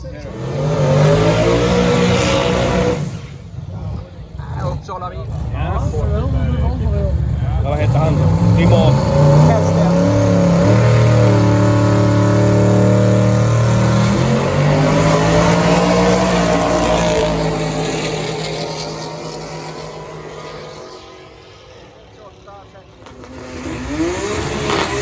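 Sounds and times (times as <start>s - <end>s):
drag racing car accelerating: 0.0s - 25.0s.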